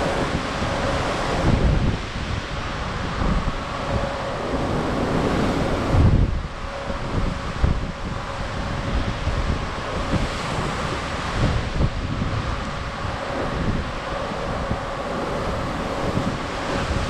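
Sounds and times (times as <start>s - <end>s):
rush of ocean swells: 0.0s - 17.0s
wind buffeting microphone: 0.0s - 17.0s.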